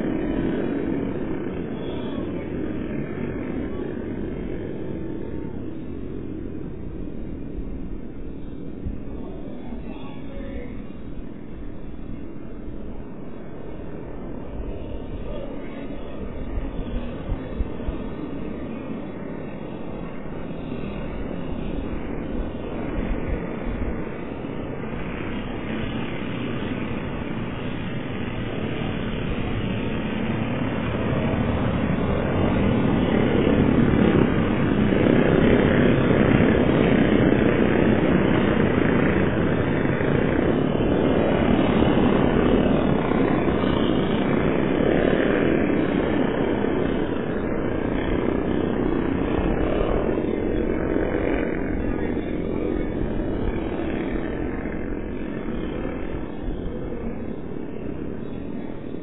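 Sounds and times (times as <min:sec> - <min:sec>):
racing kart engines droning: 0:00.0 - 0:59.0.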